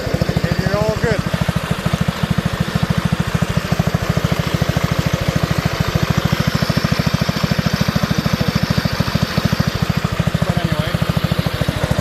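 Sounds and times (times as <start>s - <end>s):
garden tractor engine idling: 0.0s - 12.0s.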